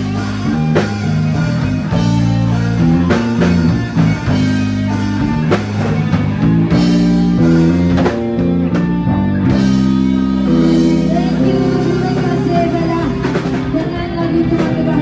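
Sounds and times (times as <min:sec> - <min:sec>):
drum kit steady beat: 0:00.0 - 0:15.0
guitars strumming chords: 0:00.0 - 0:15.0.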